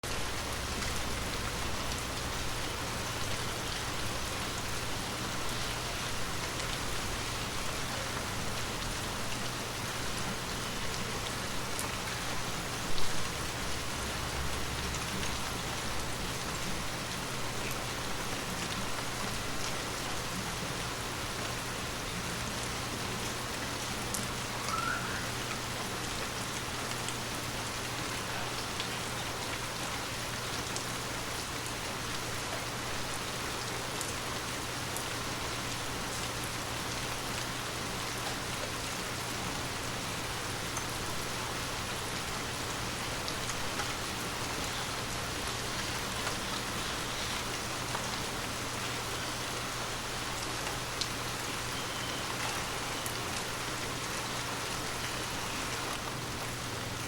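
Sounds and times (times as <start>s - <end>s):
heavy rain on hard surfaces: 0.0s - 57.0s.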